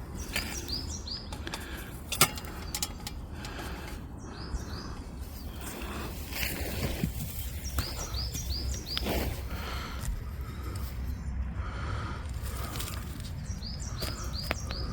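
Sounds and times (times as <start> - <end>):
songbird chirping: 0.0 - 14.9.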